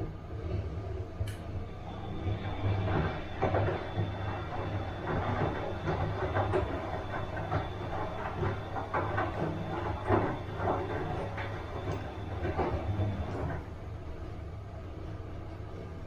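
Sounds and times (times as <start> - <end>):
washing machine humming: 0.0 - 16.0
washing machine drum swishing: 0.4 - 16.0.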